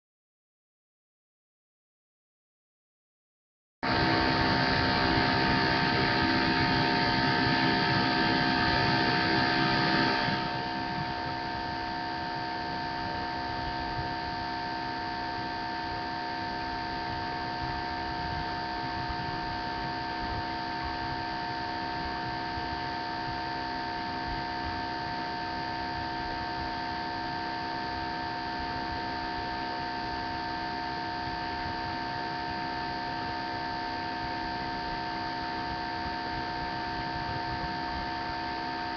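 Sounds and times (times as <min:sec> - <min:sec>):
electrical hum and hiss: 0:03.8 - 0:38.9.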